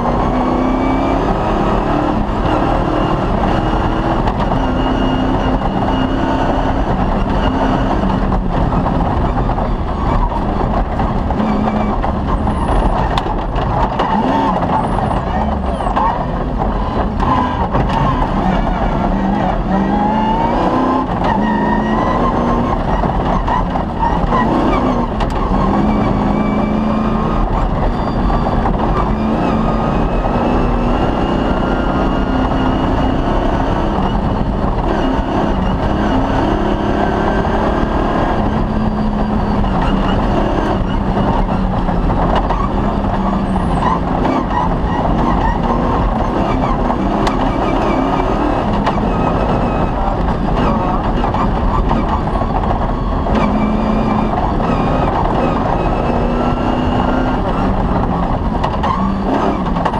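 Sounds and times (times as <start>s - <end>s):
car noise at speed: 0.0s - 59.9s
rally car engine revving: 0.0s - 59.9s.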